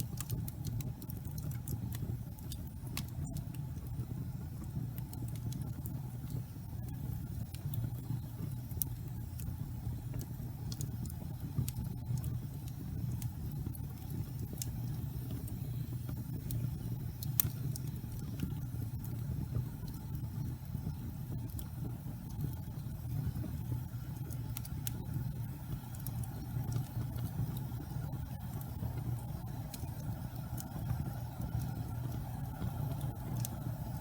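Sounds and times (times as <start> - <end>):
fire crackles and pops: 0.0 - 34.0
wood fire rumbling: 0.0 - 34.0.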